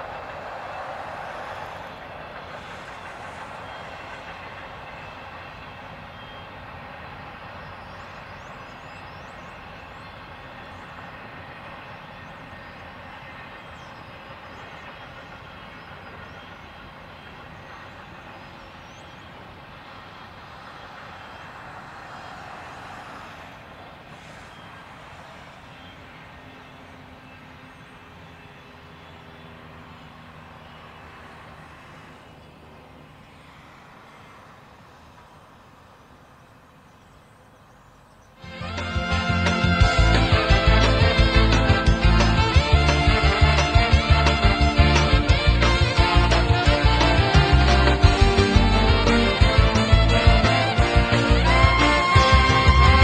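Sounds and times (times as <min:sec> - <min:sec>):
steel wheels rolling on rail: 0:00.0 - 0:53.0.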